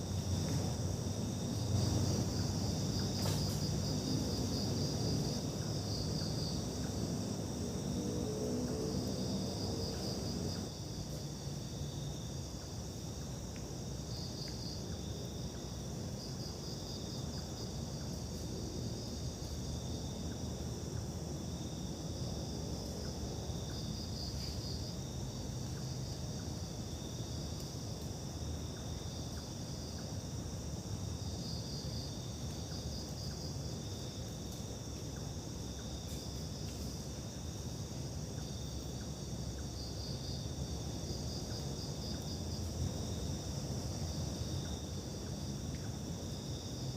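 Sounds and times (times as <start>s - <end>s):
crickets chirring: 0.0s - 46.9s.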